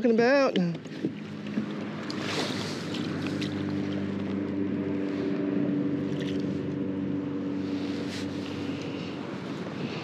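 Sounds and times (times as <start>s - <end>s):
light wind: 0.0s - 10.0s
low motor hum: 0.0s - 10.0s.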